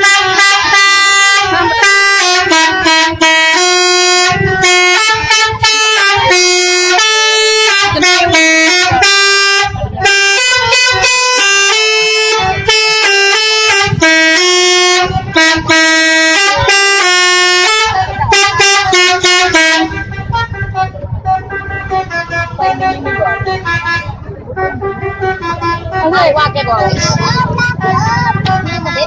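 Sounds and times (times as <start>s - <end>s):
multi-tone bus air horns tune: 0.0s - 29.0s.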